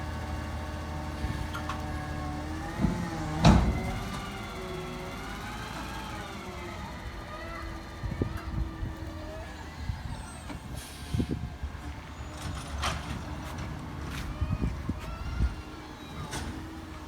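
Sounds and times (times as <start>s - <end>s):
garbage truck running with whine: 0.0s - 17.0s.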